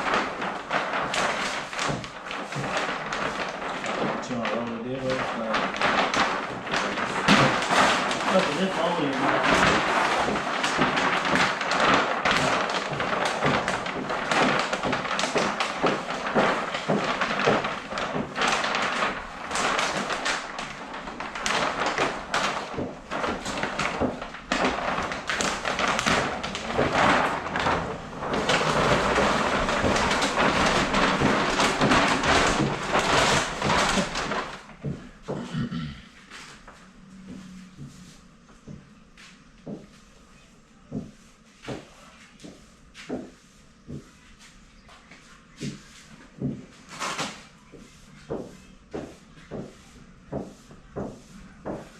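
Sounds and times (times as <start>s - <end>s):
vinyl film crackling and crinkling: 0.0s - 35.6s, 36.3s - 51.9s.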